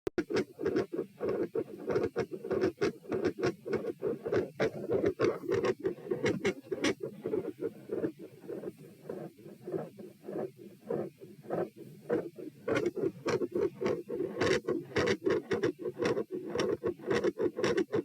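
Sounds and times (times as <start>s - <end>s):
fast heartbeat through stethoscope: 0.2s - 18.0s.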